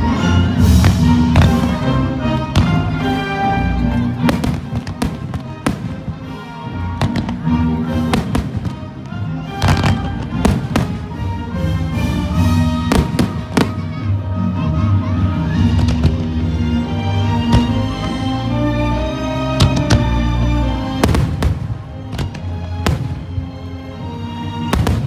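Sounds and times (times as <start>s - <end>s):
orchestral music: 0.0s - 25.0s
fireworks bursting: 0.5s - 11.4s, 12.4s - 14.2s, 15.5s - 18.5s, 19.5s - 23.7s, 24.6s - 25.0s.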